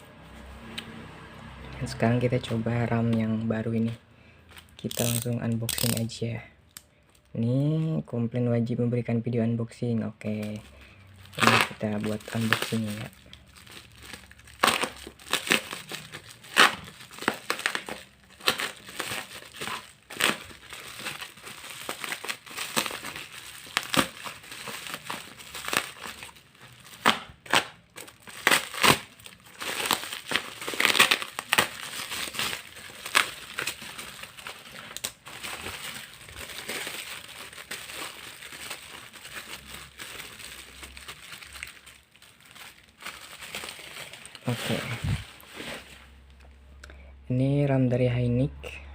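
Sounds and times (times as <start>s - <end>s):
packaging crinkling and tearing: 1.8s - 7.9s, 10.2s - 46.4s.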